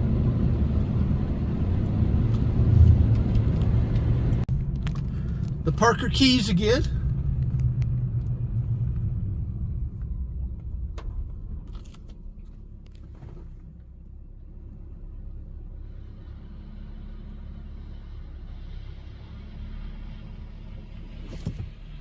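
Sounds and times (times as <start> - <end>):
car driving rumble: 0.0 - 22.0.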